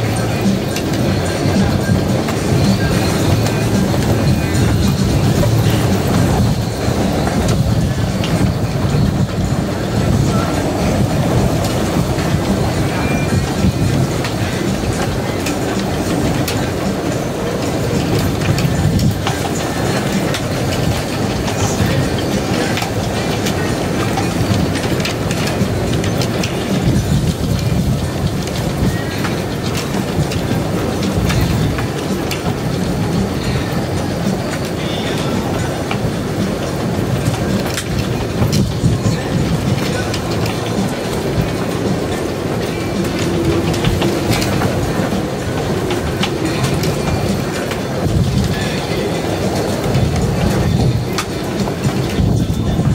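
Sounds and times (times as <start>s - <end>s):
waves slapping against dock: 0.0s - 52.9s
wind buffeting microphone: 0.0s - 52.9s.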